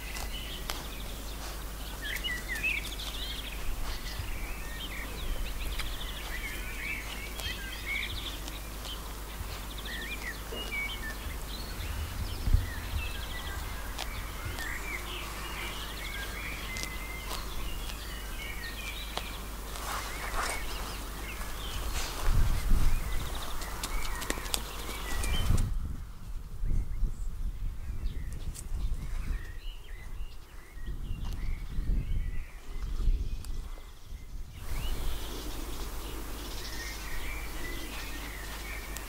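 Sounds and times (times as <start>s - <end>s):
steady low rumble: 0.0s - 30.3s, 30.9s - 39.0s
songbirds singing and chirping: 0.0s - 39.0s.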